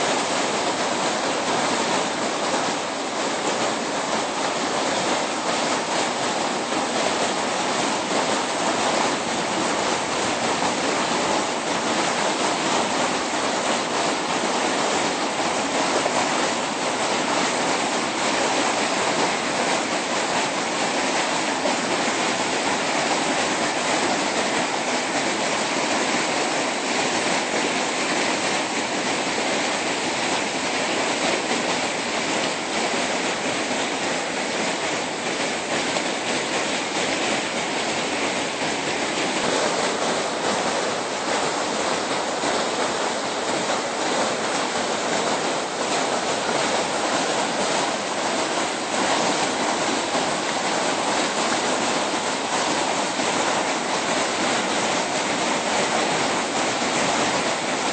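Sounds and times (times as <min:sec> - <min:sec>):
rushing water roar: 0:00.0 - 0:57.9.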